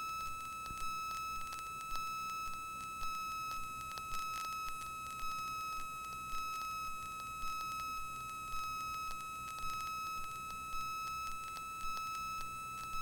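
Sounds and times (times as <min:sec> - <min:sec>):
high-pitched electrical whine: 0:00.0 - 0:13.0.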